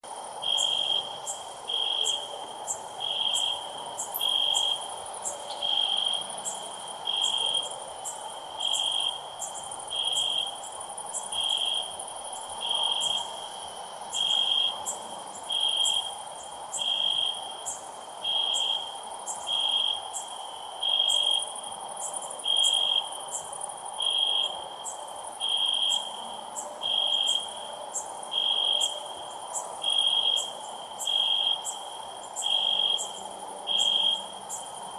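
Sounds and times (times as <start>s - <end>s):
cricket chirping: 0.1s - 34.9s
faint high insect ticks: 0.1s - 34.9s.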